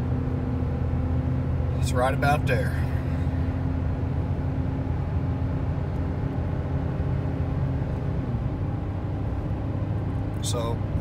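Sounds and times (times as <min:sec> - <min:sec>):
road noise: 0:00.0 - 0:11.0
truck engine at high revs: 0:00.0 - 0:11.0.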